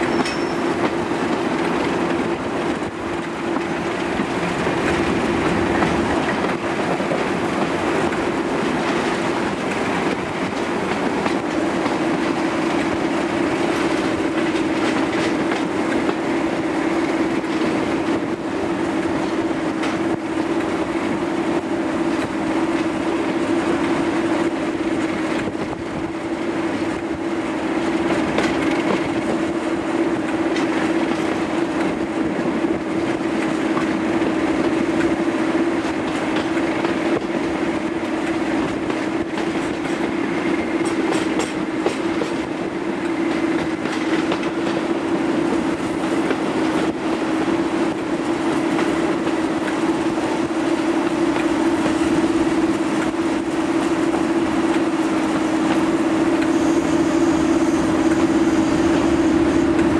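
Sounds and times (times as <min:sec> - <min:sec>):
diesel locomotive engine droning: 0:00.0 - 0:59.9.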